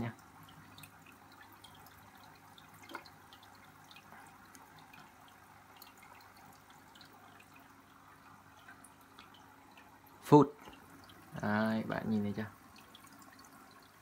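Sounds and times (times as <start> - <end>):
water drips: 0.0 - 14.0
water trickle: 0.0 - 14.0.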